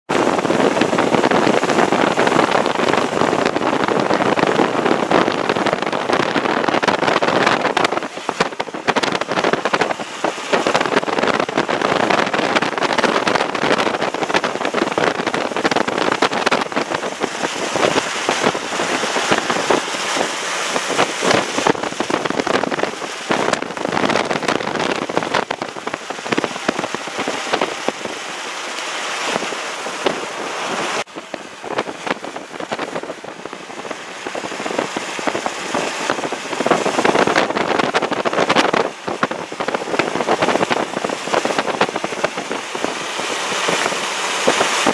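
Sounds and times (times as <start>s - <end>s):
rain pattering on car: 0.1s - 44.9s
tyre and road noise: 0.1s - 44.9s.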